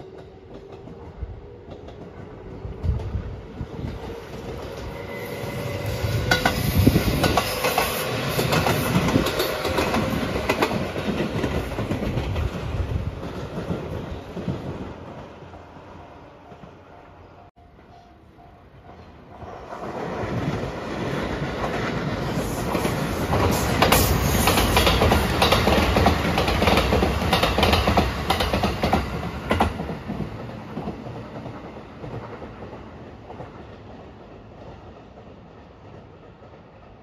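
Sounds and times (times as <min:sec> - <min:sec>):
train passing at speed: 0:00.0 - 0:37.0.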